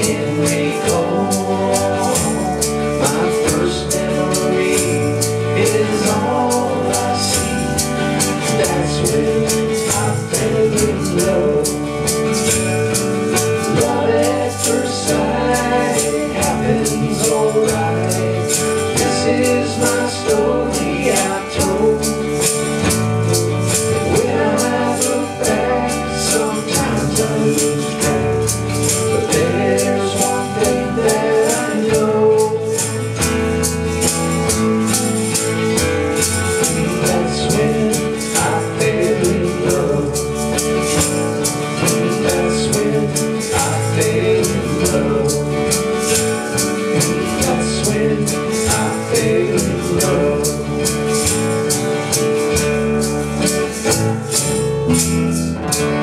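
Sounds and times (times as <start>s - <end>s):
man singing: 0.0s - 12.5s, 13.4s - 33.6s, 36.6s - 40.9s, 41.6s - 51.3s
drum kit: 0.0s - 56.0s
electric bass: 0.0s - 56.0s
shaker rhythm: 0.0s - 56.0s
strummed acoustic guitar: 0.0s - 56.0s.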